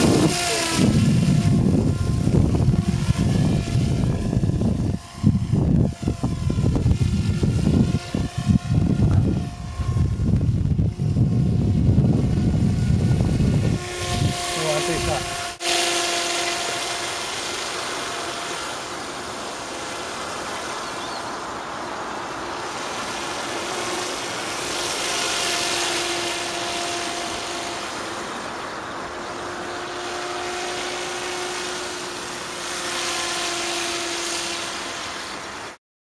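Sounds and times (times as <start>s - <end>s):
constant hiss: 0.0s - 35.8s
model aircraft motor drone: 0.0s - 35.8s.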